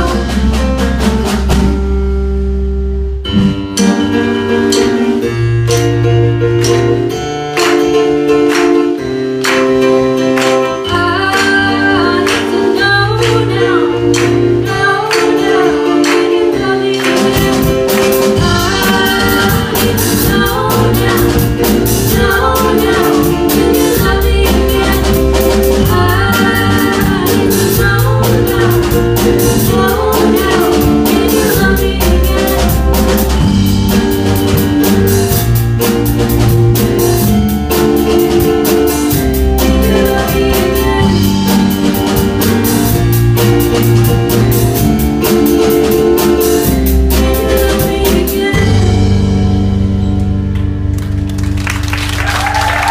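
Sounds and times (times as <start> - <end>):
band playing with singing: 0.0 - 1.8, 6.6 - 49.8
drum kit: 0.0 - 52.9.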